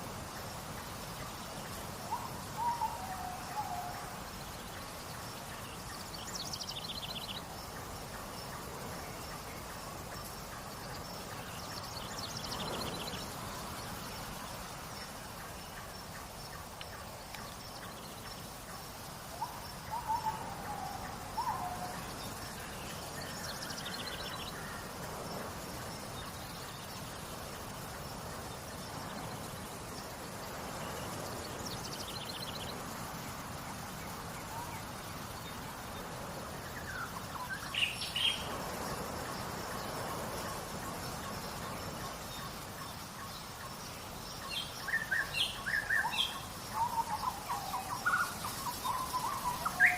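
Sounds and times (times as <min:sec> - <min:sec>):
insect trill: 0:00.0 - 0:49.9.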